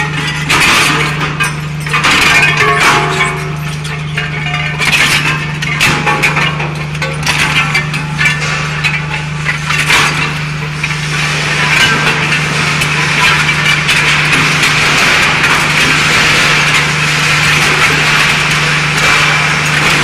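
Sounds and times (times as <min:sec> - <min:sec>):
harsh metal grinding: 0:00.0 - 0:20.0
metal cracking and clattering: 0:00.0 - 0:20.0
scrap metal shredder humming: 0:00.0 - 0:20.0.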